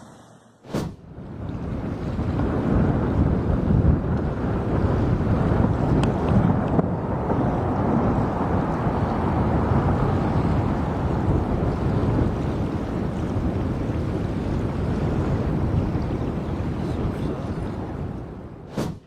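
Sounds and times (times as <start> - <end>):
wind buffeting the microphone: 0.8 - 19.0.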